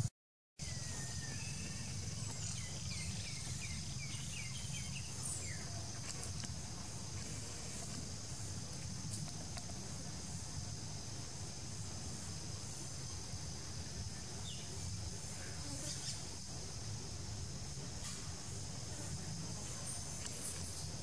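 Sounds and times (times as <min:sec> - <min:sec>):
high-pitched insect chorus: 0:00.6 - 0:21.0.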